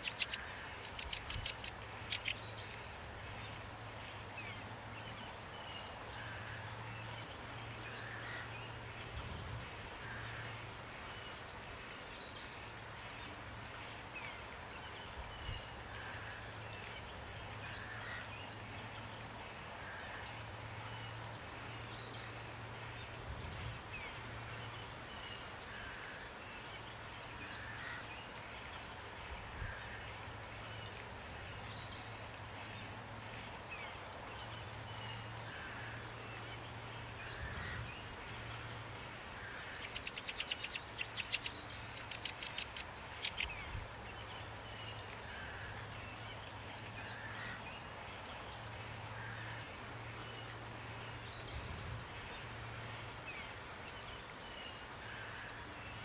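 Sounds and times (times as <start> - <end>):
songbirds chirping: 0.0 - 56.0
steady rain: 0.0 - 56.0.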